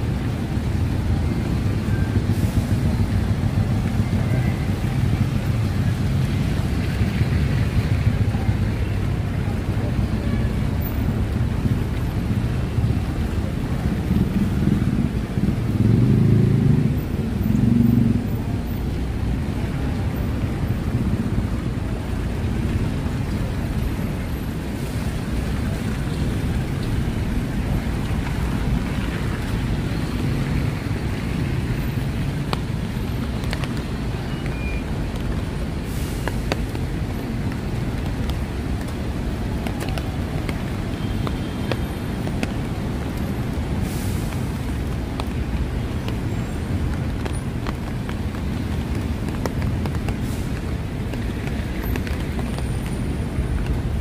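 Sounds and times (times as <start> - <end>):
cars passing on wet street: 0.0 - 54.0
rain falling: 0.0 - 54.0.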